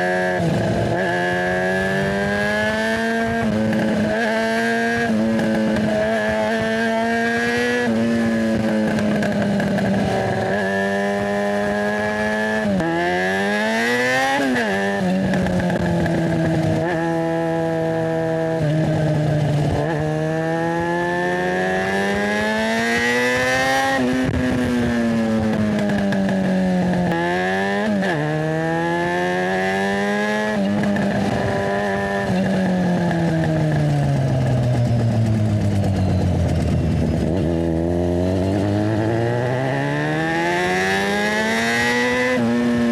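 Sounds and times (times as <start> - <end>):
motorcycle engine shifting gears: 0.0 - 42.9.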